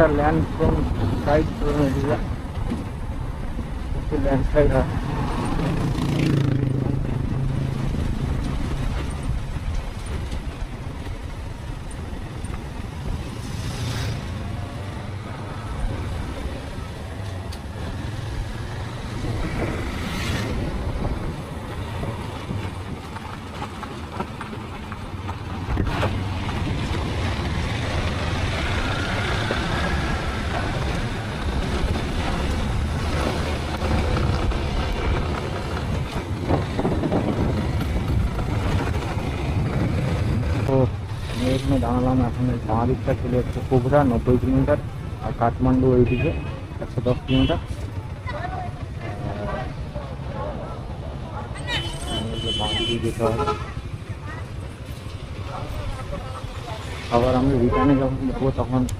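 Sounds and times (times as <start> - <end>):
road and wind noise: 0.0 - 58.9.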